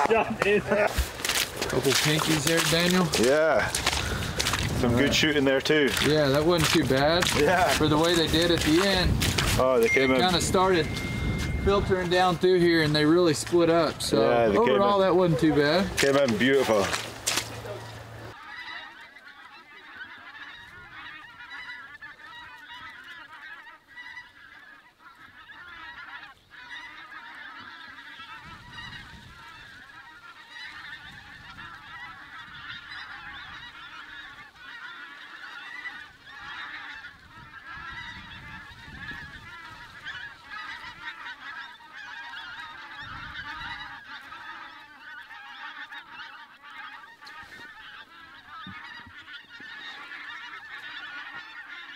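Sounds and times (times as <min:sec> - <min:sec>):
geese honking in flight: 0:00.0 - 0:51.9.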